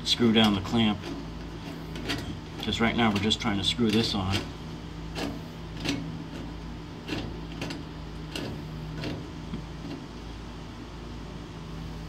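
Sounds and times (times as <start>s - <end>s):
steady low hum: 0.0s - 12.0s
locknut clicking and scraping on metal: 0.2s - 10.0s.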